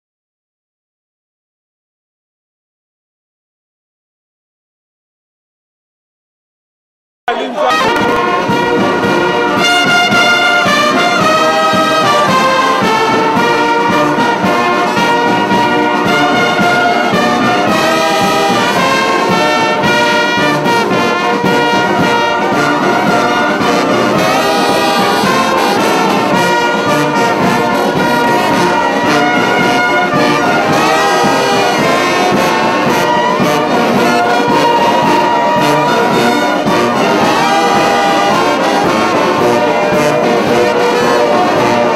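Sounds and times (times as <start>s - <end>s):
brass band playing: 7.3s - 41.9s.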